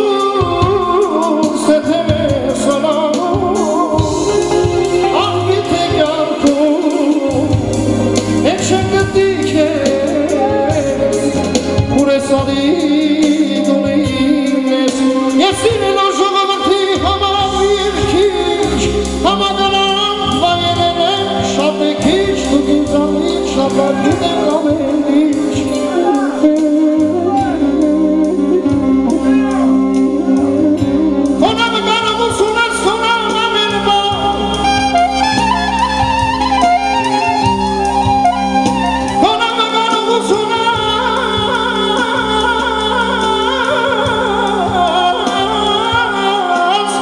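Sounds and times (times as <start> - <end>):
man singing through a pa: 0.0 - 34.6, 39.1 - 47.0
clarinet melody: 0.0 - 47.0.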